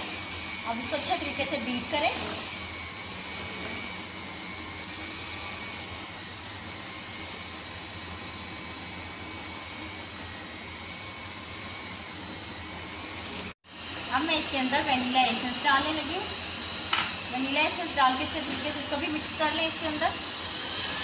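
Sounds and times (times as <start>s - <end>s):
electric hand mixer whirring: 0.0s - 21.0s.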